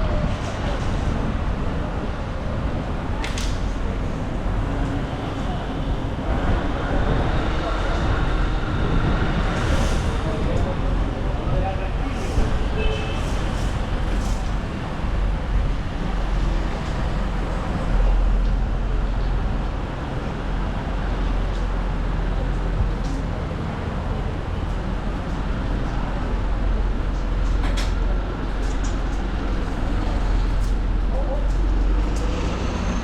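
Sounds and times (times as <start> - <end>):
road traffic: 0.0 - 33.0
wind gusting over microphone: 0.0 - 33.0.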